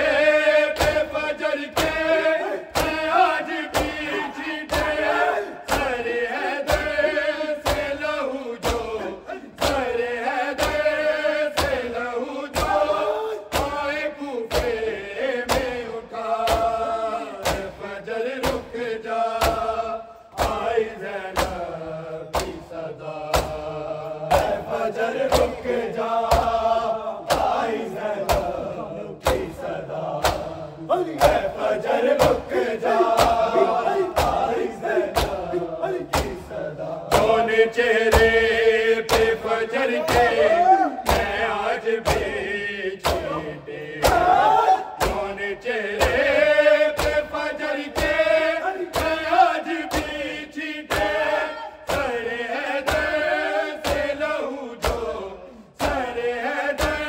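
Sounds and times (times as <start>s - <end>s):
men chanting in unison: 0.0s - 57.0s
hands slapping chests: 0.1s - 18.7s, 19.3s - 43.4s, 44.0s - 45.4s, 46.0s - 55.2s, 55.8s - 56.1s.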